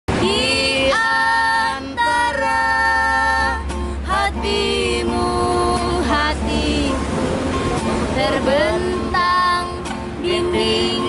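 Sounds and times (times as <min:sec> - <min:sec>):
woman singing: 0:00.1 - 0:07.0, 0:08.1 - 0:11.0
acoustic guitar: 0:00.1 - 0:11.0.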